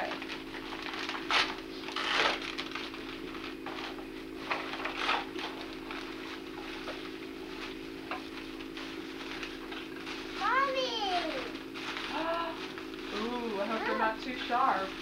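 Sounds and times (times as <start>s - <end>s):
steady low hum: 0.0s - 15.0s
wrapping paper rustling: 0.0s - 15.0s.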